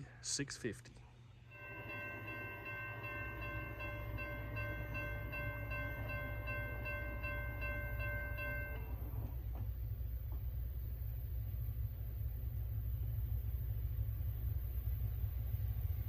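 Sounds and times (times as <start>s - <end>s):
railroad crossing bell ringing: 1.5s - 16.0s.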